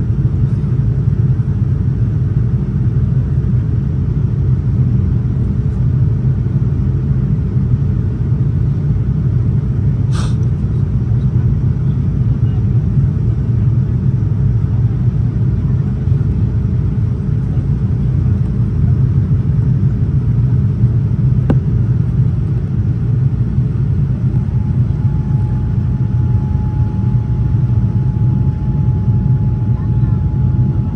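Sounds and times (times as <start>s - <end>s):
airplane cabin engine rumble: 0.0s - 30.9s
constant hum: 0.0s - 30.9s.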